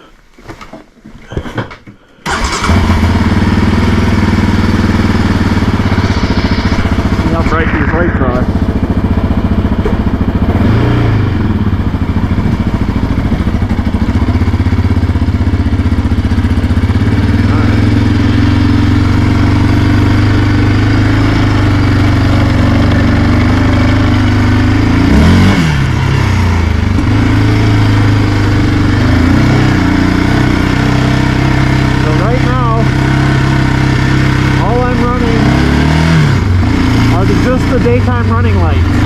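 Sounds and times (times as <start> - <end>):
atv engine running: 2.3 - 39.0.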